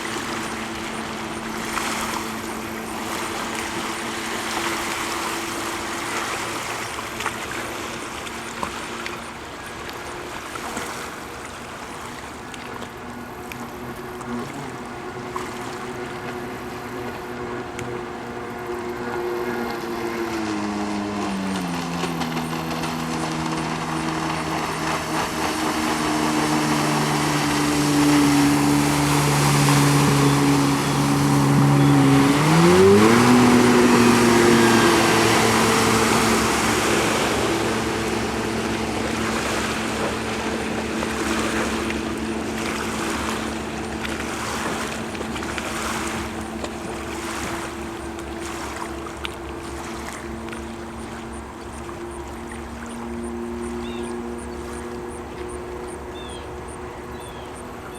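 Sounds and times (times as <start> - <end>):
jet ski engine running: 0.0 - 57.9
water rushing along hull: 0.0 - 57.9.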